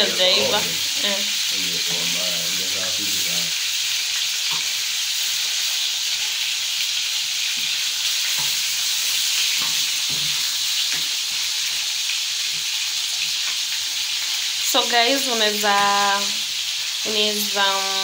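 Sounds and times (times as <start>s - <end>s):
chicken frying in hot oil: 0.0s - 18.0s.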